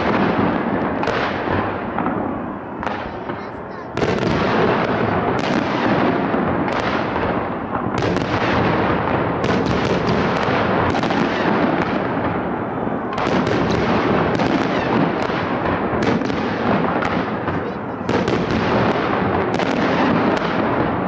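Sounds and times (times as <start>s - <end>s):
fireworks booming: 0.0s - 21.0s.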